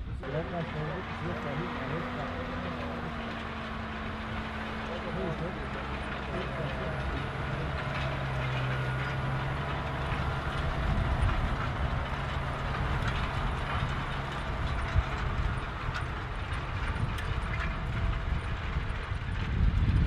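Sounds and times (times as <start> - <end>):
implement rattling: 0.0 - 20.0
tractor diesel engine: 0.0 - 20.0.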